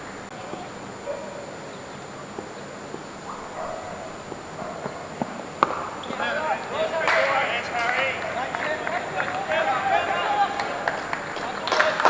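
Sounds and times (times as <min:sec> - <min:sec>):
faint distant calls: 0:00.0 - 0:12.0.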